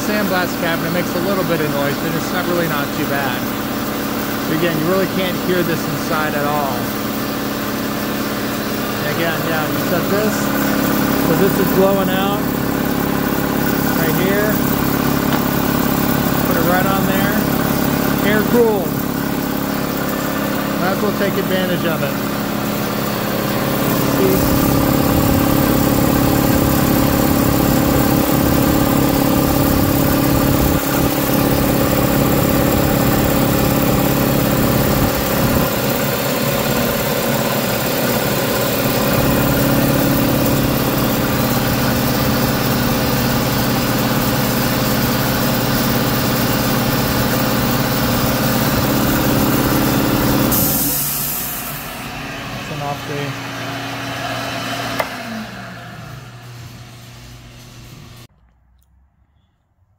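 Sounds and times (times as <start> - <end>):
air compressor running: 0.0 - 58.3
shop vac running: 0.0 - 58.3.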